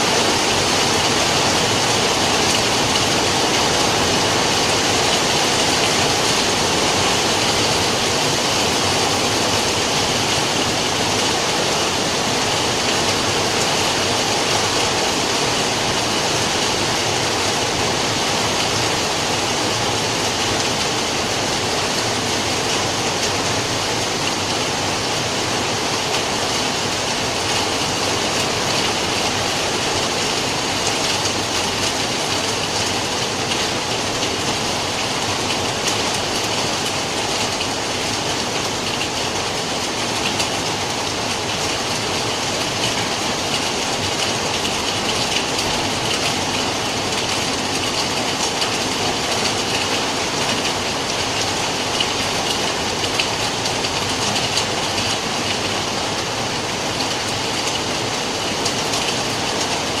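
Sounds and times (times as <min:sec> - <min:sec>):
rain falling: 0:00.0 - 1:00.0.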